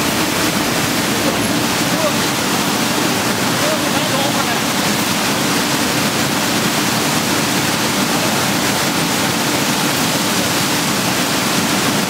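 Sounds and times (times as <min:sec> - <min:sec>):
machine hum: 0:00.0 - 0:12.0
water churning and spraying: 0:00.0 - 0:12.0.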